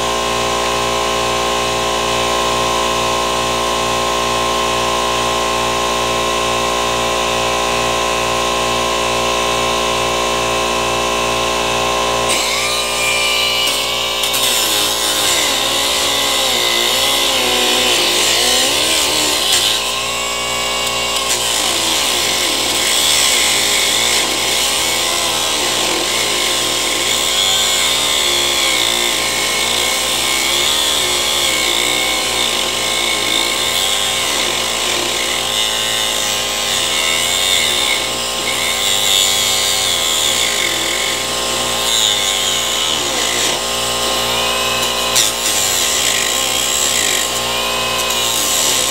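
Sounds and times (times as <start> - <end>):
electric power tool running: 0.0 - 48.9.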